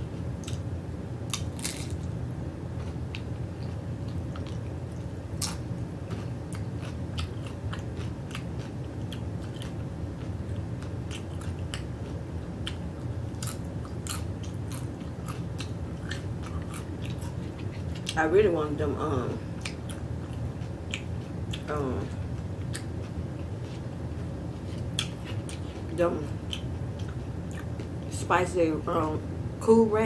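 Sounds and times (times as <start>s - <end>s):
steady low hum: 0.0s - 30.0s
chewing and crunching chips: 1.3s - 2.2s, 2.8s - 18.3s, 19.5s - 28.1s.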